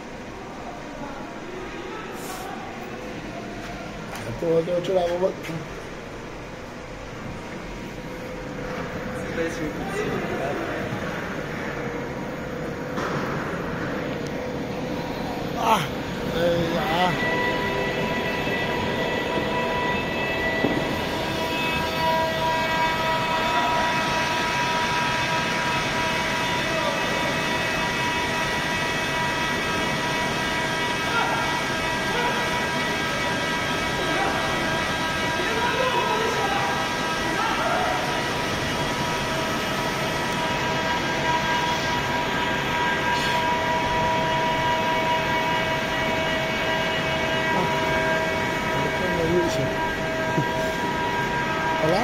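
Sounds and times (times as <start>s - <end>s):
machinery drone with whining tones: 0.0s - 52.0s.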